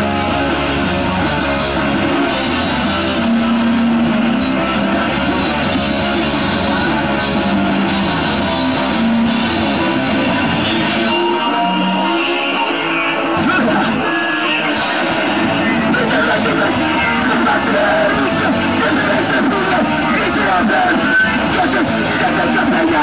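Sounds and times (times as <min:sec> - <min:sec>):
loud punk band playing: 0:00.0 - 0:23.0.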